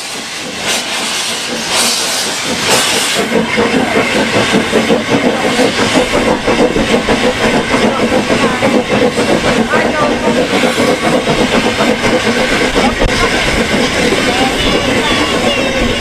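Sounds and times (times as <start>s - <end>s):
steam hissing: 0.0s - 16.0s
steam locomotive chuffing: 0.0s - 16.0s.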